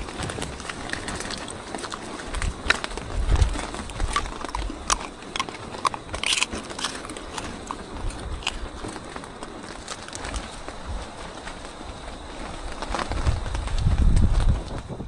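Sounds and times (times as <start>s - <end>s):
crackling clicks: 0.0s - 15.0s
wind buffeting microphone: 0.0s - 15.0s.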